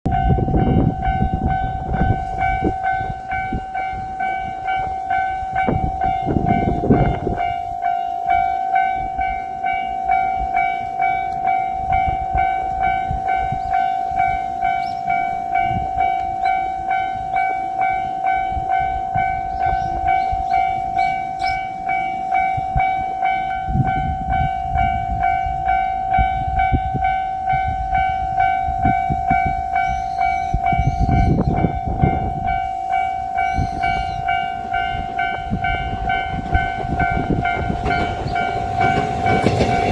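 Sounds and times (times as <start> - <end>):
train rumble: 0.0 - 39.9
level crossing bell ringing: 0.1 - 39.9.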